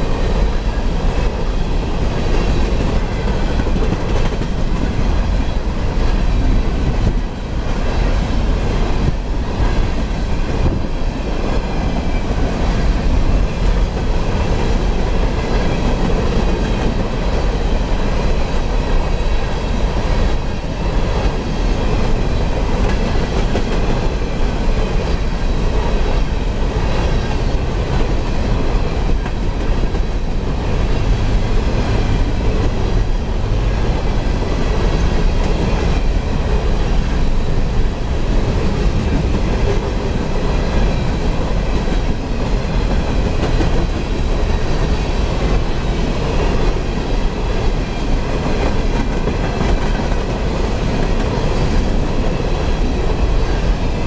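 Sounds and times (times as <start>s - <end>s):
steel wheels rumbling on rail: 0.0s - 54.0s
wheels clickety-clack over joints: 0.1s - 54.0s.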